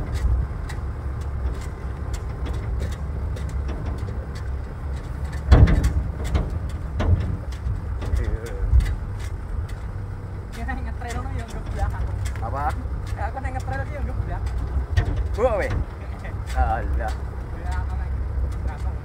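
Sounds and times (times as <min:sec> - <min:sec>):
bumps: 0:00.0 - 0:19.0
vehicle rumble: 0:00.0 - 0:19.0.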